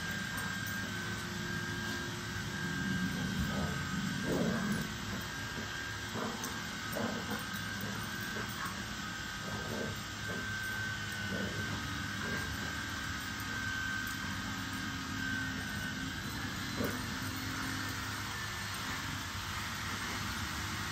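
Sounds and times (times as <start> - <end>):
motor humming: 0.0 - 20.9
thin high whine: 0.0 - 20.9.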